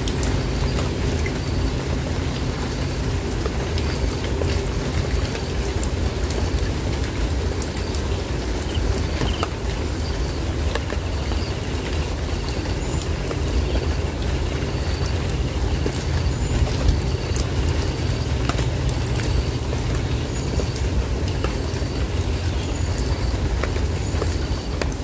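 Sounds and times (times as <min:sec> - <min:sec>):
rain on plants: 0:00.0 - 0:25.0
raindrops ticking: 0:00.0 - 0:25.0.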